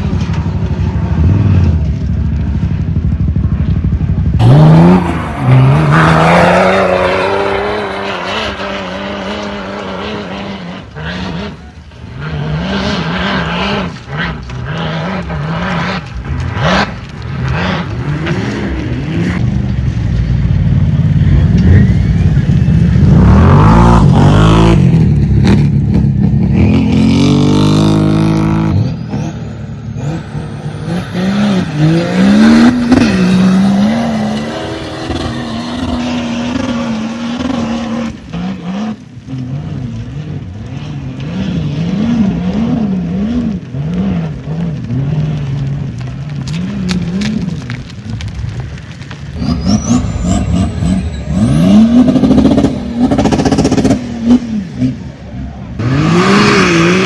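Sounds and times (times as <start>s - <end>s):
off-road engines revving: 0.0s - 57.0s.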